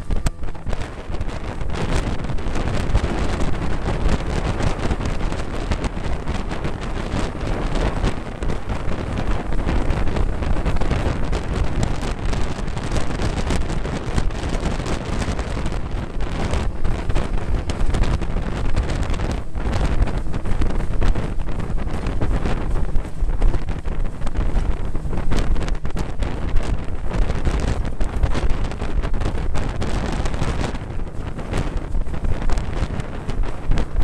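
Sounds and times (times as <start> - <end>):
outboard motor running: 0.0 - 34.0
wind buffeting microphone: 0.0 - 34.0.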